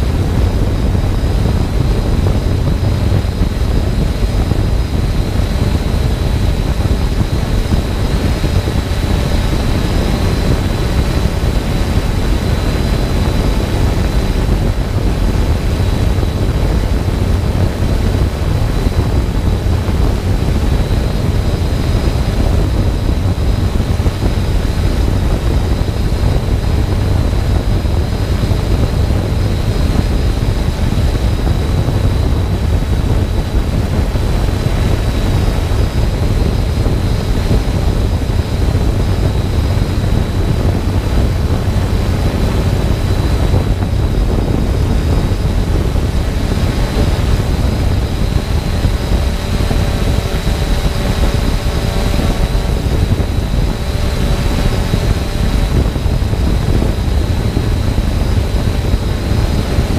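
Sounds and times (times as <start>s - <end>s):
drone motors humming and whining: 0.0s - 59.9s
wind rumble on microphone: 0.0s - 59.9s.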